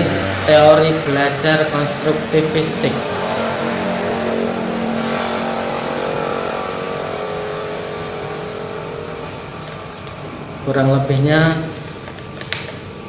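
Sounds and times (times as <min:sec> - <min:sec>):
crickets chirring: 0:00.0 - 0:13.0
motor droning: 0:00.0 - 0:13.0.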